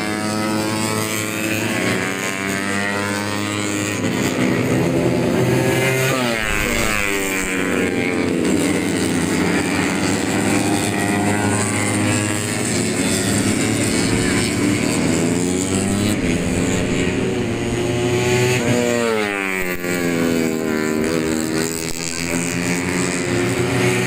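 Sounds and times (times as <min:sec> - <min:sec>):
motorcycles racing at high revs: 0:00.0 - 0:24.0.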